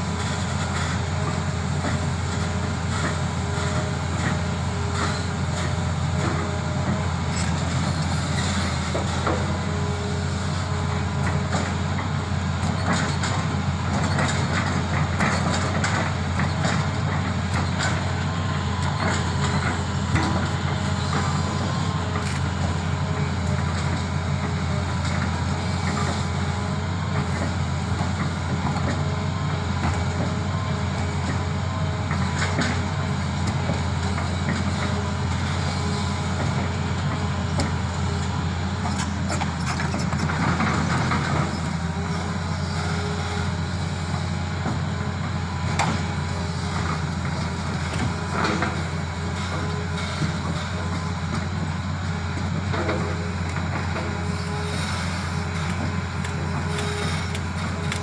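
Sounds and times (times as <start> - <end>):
excavator diesel engine droning: 0.0 - 58.0
faint engine whine: 0.0 - 58.0.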